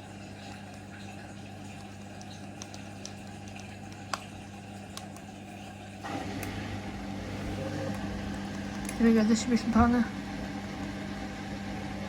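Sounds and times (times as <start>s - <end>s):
washing machine drain pump humming: 0.0s - 12.0s.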